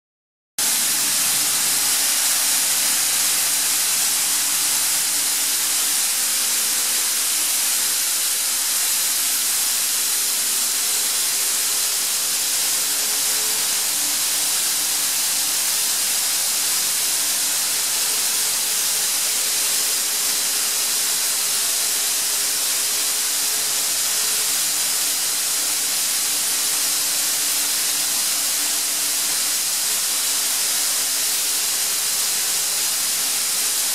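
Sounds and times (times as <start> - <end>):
air compressor rushing hiss: 0.6 - 33.9.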